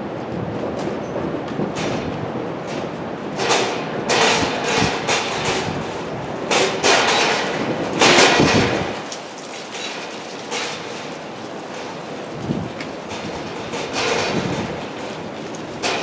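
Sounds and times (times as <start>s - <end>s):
freight train cars moving slowly: 0.0s - 16.0s
wind buffeting microphone: 0.0s - 16.0s
wheels and couplers clanking: 0.6s - 16.0s.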